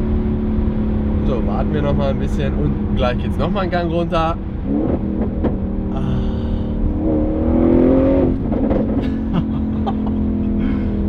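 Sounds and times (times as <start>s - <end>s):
car engine from inside cabin: 0.0s - 11.0s.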